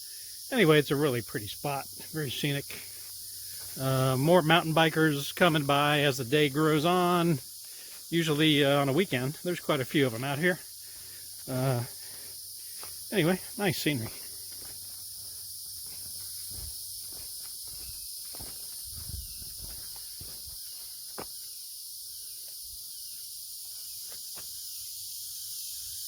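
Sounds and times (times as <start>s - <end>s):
cicadas and insects droning: 0.0s - 26.0s.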